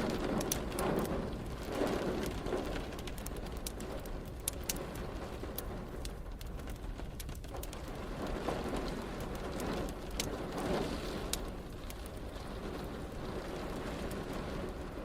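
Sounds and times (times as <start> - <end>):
distant thunder rumble: 0.0 - 15.0
steady rain: 0.0 - 15.0
wood fire crackling: 0.0 - 15.0.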